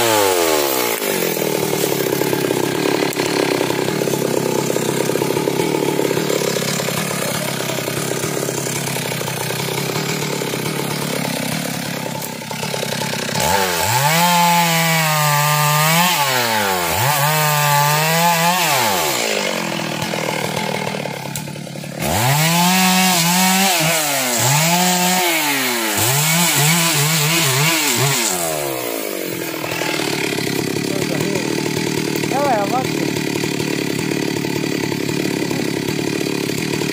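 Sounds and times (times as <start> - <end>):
chainsaw cutting and revving: 0.0 - 36.9.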